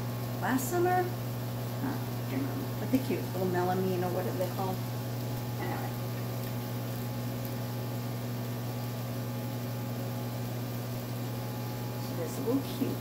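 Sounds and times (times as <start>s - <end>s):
microwave oven running: 0.0s - 13.0s.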